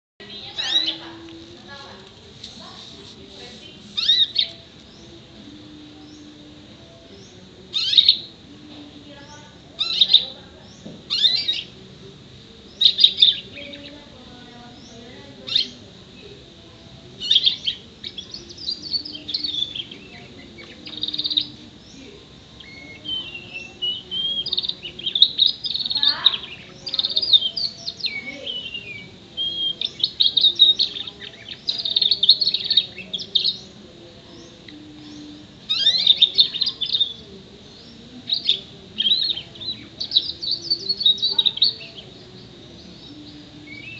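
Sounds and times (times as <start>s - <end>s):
canary singing: 0.2s - 43.9s.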